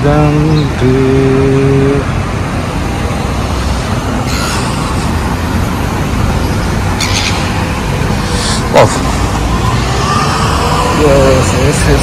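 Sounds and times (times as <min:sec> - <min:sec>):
road vehicles passing: 0:00.0 - 0:12.0.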